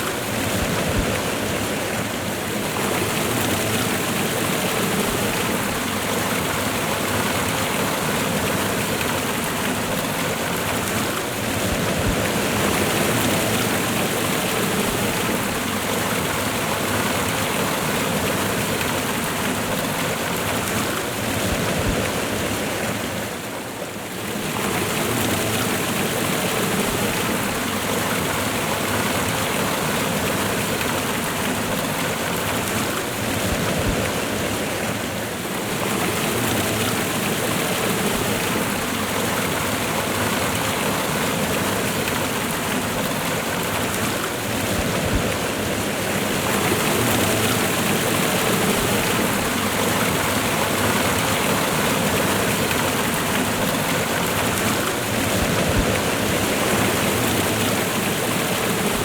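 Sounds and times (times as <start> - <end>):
waterfall and river rushing: 0.0 - 59.0.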